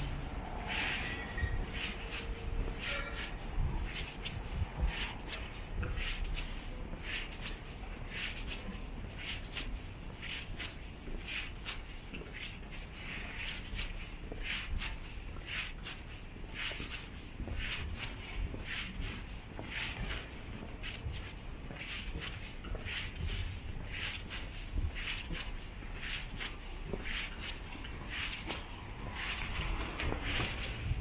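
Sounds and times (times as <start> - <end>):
footsteps on asphalt: 0.0 - 31.0.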